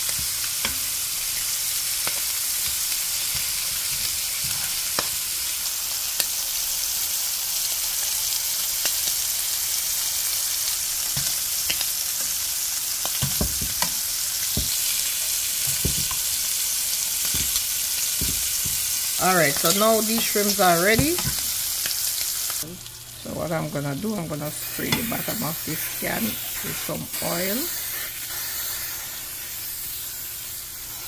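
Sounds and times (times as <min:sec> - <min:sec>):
shrimp sizzling in pan: 0:00.0 - 0:31.0.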